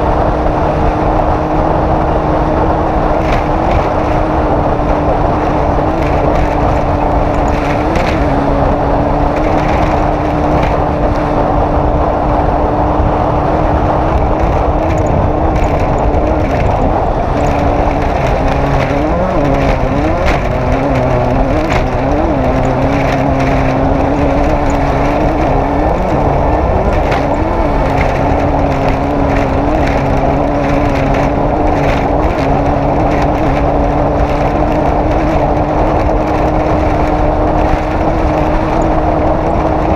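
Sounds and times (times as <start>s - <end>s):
race vehicle engine running hard: 0.0s - 39.9s
knocks and rattles: 3.1s - 11.3s, 14.0s - 39.9s.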